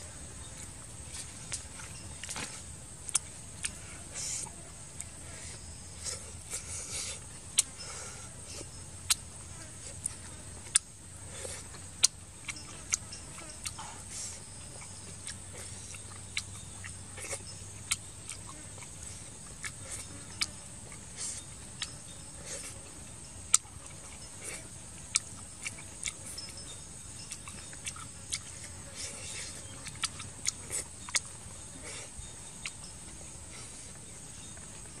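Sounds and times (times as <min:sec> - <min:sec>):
insects droning: 0:00.0 - 0:35.0
chewing smacks and clicks: 0:00.6 - 0:05.2, 0:08.6 - 0:22.8, 0:23.5 - 0:33.2.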